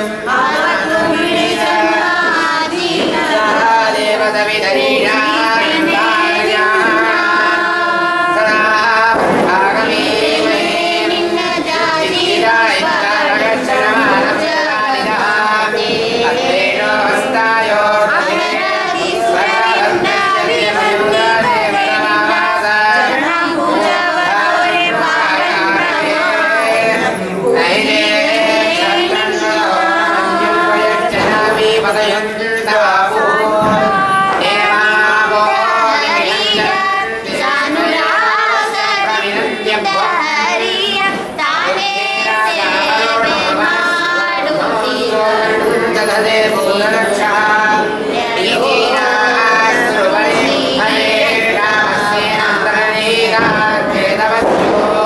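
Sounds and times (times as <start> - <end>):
group singing a hymn: 0.0 - 55.0.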